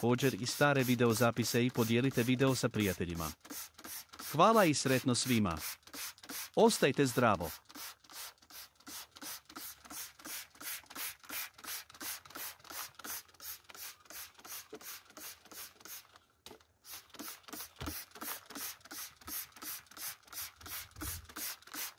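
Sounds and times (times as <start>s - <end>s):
spray bottle hissing: 0.0s - 6.8s, 7.4s - 16.2s, 16.8s - 21.9s.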